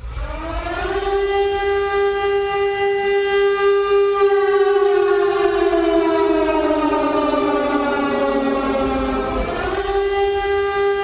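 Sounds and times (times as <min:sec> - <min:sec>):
air raid siren wailing: 0:00.0 - 0:11.0.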